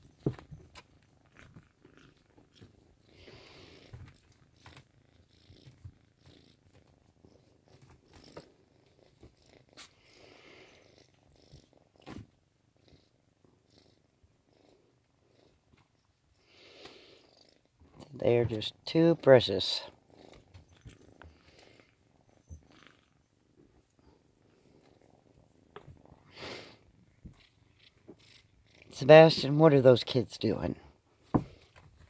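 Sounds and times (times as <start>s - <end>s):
cat purring: 0.0s - 32.0s.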